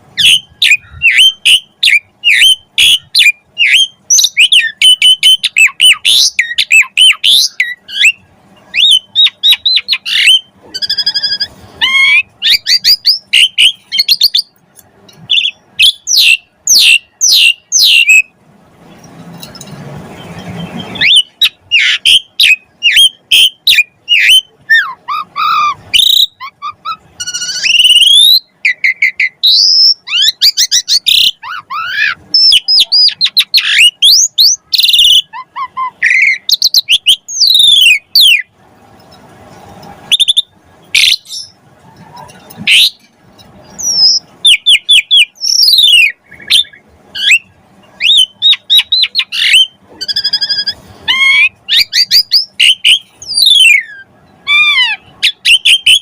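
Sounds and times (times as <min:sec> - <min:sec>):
starling singing: 0:00.0 - 0:18.4, 0:19.0 - 0:39.3, 0:40.0 - 0:56.0.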